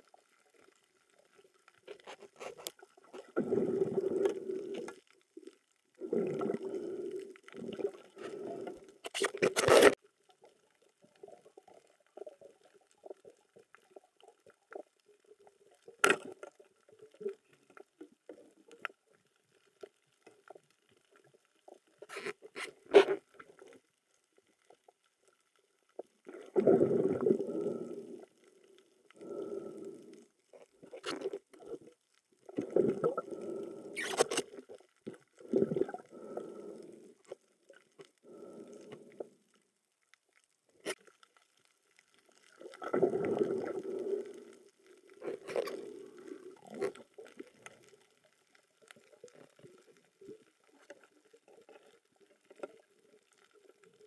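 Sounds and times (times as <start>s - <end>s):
underwater gurgling: 0.0s - 54.0s.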